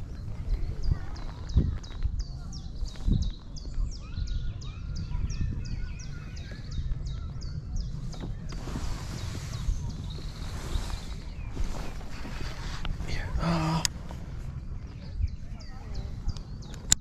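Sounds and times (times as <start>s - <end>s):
rumble of wind and water: 0.0s - 17.0s
small bird chirping: 0.0s - 17.0s.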